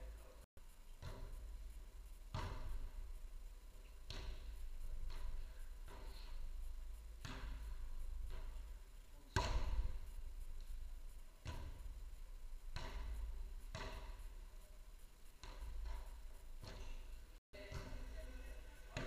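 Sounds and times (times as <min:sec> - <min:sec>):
low steady hum: 0:00.0 - 0:19.0
ball thuds echoing in hall: 0:00.9 - 0:10.8, 0:11.4 - 0:14.2, 0:15.4 - 0:19.0.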